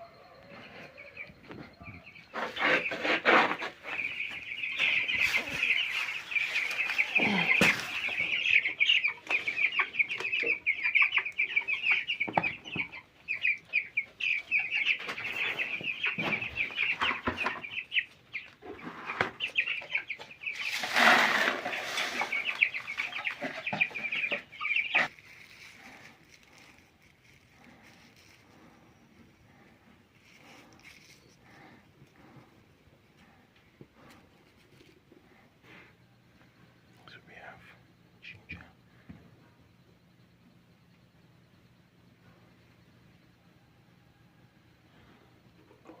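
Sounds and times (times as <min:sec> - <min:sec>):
chickens peeping and clucking: 0:00.0 - 0:37.0, 0:37.9 - 0:46.0.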